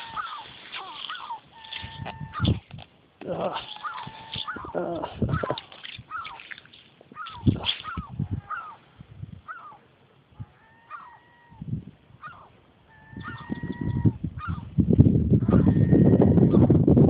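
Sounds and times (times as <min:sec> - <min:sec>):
seagulls calling: 0:00.0 - 0:02.7, 0:03.3 - 0:14.7.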